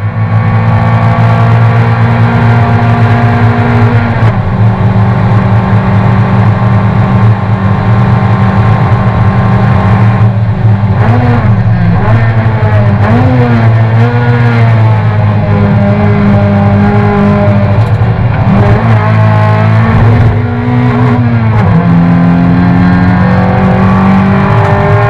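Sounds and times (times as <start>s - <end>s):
race car engine at high revs: 0.0s - 25.0s.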